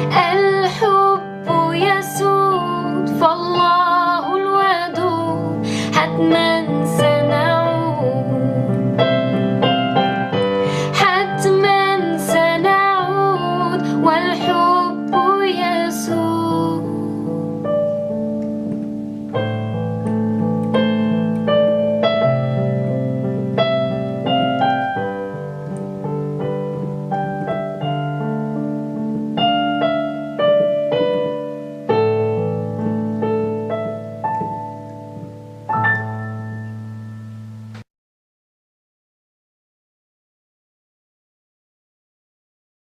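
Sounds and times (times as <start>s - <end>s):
piano ballad: 0.0s - 37.9s.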